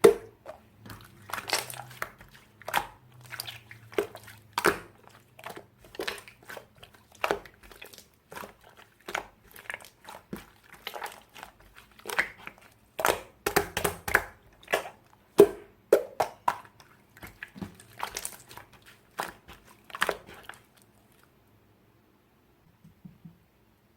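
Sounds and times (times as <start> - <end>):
slime squishing: 0.0 - 21.4.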